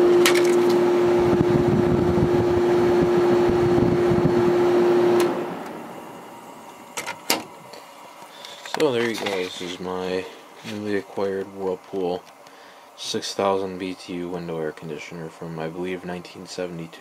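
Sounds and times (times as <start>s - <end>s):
air conditioner compressor hum: 0.0s - 17.0s
air conditioner fan airflow: 0.0s - 17.0s.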